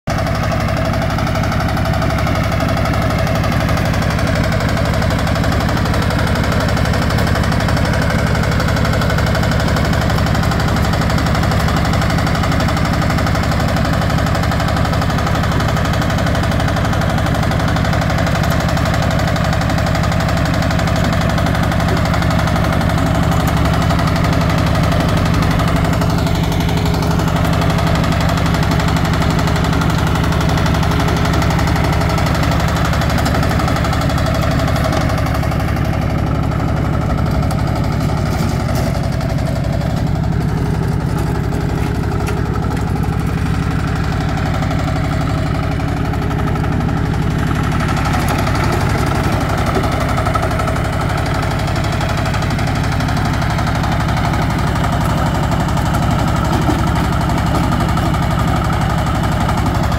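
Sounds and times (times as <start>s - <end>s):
diesel engine pulsing: 0.0s - 59.9s
rotary tiller churning soil: 0.1s - 59.9s.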